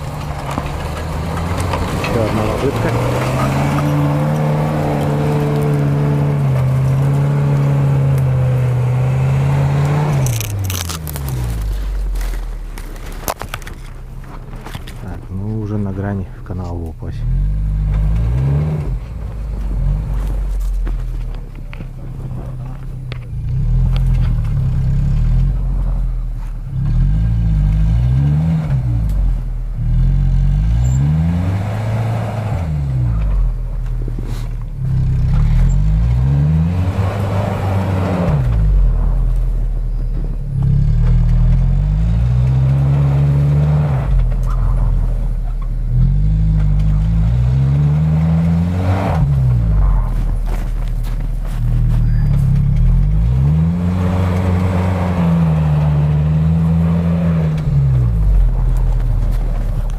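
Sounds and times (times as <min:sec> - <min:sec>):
suv engine revving: 0:00.0 - 0:59.9.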